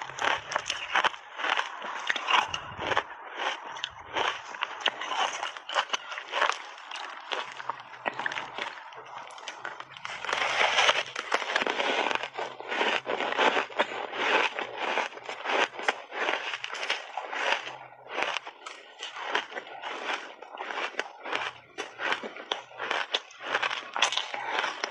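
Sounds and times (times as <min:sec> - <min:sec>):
crunching and chewing ice: 0:00.0 - 0:24.9.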